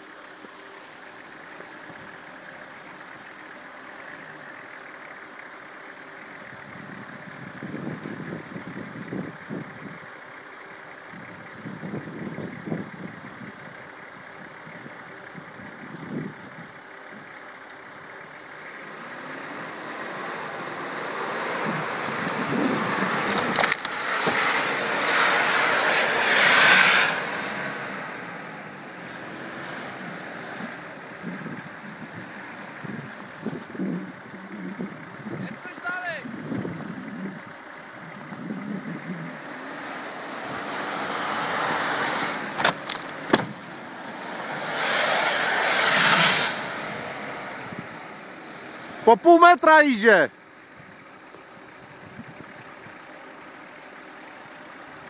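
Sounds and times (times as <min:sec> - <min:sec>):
diesel engine pulling under load: 0:00.0 - 0:55.0
tyres churning through snow: 0:00.0 - 0:55.0.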